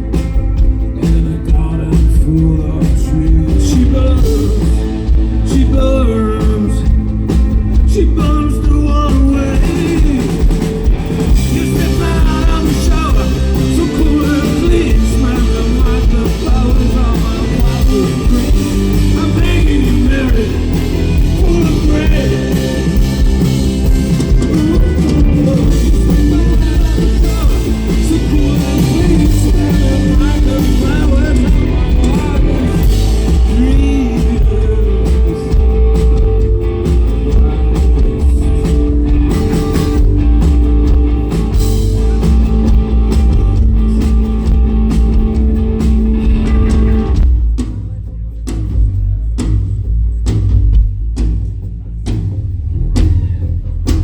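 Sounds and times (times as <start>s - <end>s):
electric guitar: 0.0s - 47.4s
bass guitar: 0.0s - 54.0s
drums: 0.0s - 54.0s
person singing: 0.9s - 10.7s, 11.4s - 47.2s.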